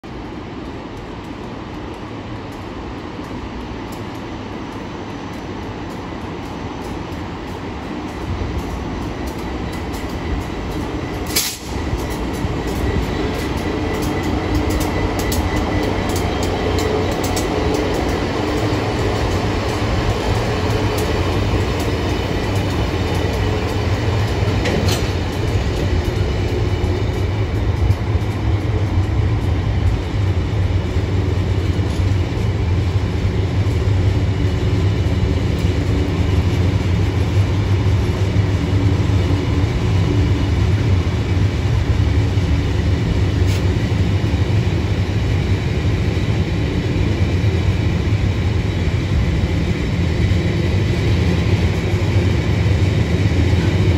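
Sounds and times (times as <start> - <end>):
diesel locomotive engine passing: 0.0 - 53.9
wagons rolling on rails: 0.2 - 53.9.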